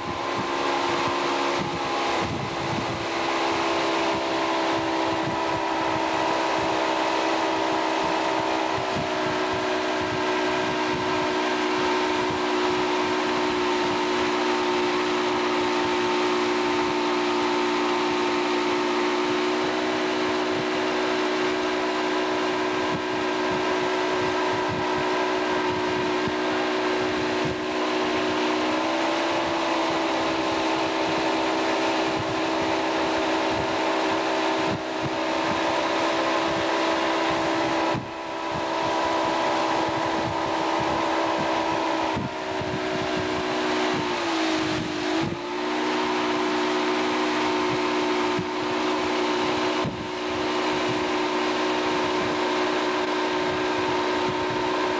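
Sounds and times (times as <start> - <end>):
motorboat engine running: 0.0 - 54.9
wind and water rushing: 0.0 - 54.9.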